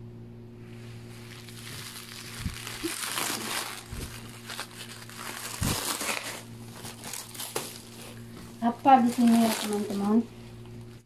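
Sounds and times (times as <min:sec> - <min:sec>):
plastic wrap crinkling: 0:00.8 - 0:11.0.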